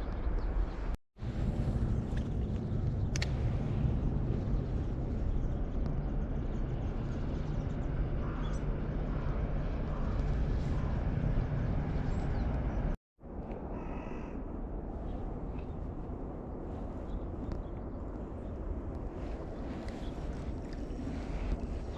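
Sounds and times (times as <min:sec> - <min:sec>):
low outdoor rumble: 0:00.0 - 0:21.9.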